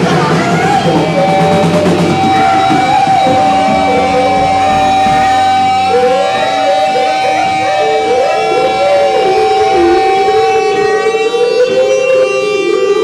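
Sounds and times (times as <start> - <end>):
steady high tone: 0.0 - 13.0
wavering sliding pitched sounds: 0.7 - 13.0.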